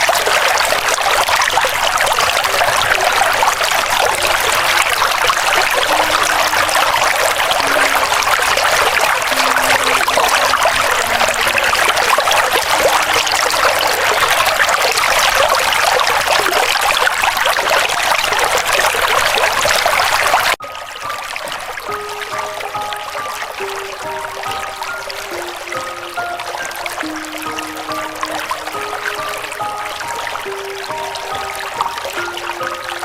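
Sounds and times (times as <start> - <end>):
river water trickling: 0.0 - 33.0.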